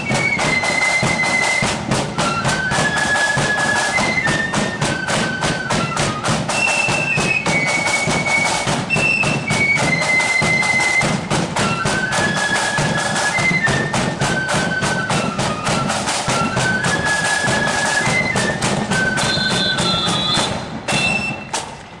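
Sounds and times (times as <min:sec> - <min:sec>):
flutes playing melody: 0:00.0 - 0:21.8
snare and bass drums: 0:00.0 - 0:22.0.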